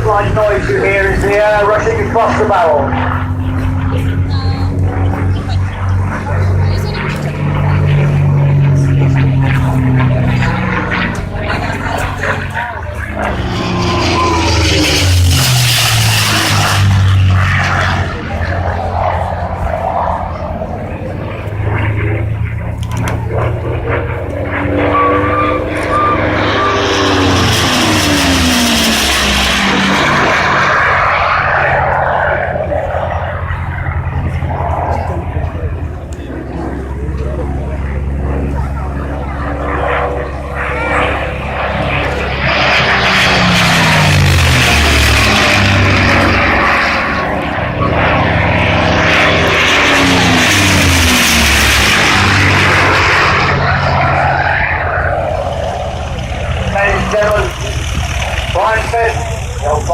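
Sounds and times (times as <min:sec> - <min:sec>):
propeller aircraft fly-by: 0:00.0 - 0:59.9.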